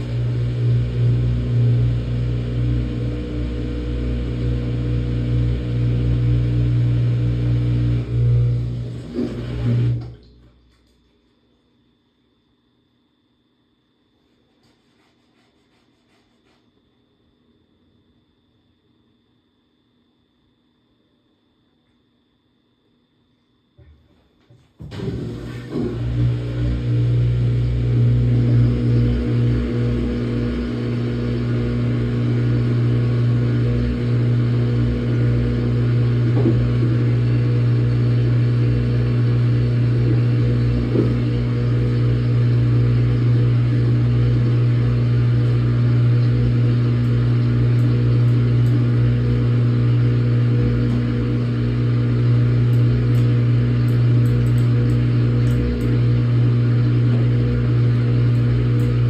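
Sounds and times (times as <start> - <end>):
washing machine motor hum: 0.0 - 22.0, 22.7 - 59.0.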